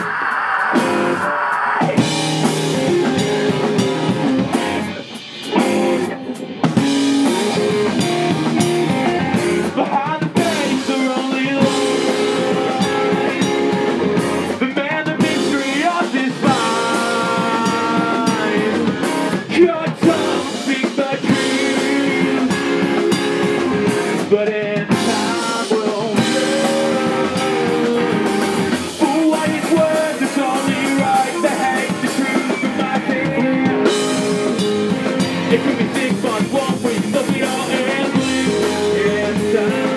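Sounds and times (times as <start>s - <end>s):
drum kit: 0.0s - 39.9s
electric guitars: 0.0s - 39.9s
rock band playing live: 0.0s - 39.9s.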